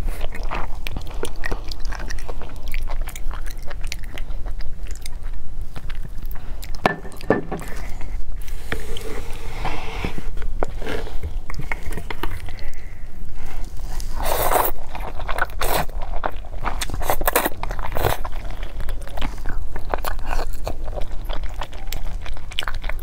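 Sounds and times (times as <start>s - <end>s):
chewing noodles: 0.0s - 6.8s, 10.4s - 23.0s.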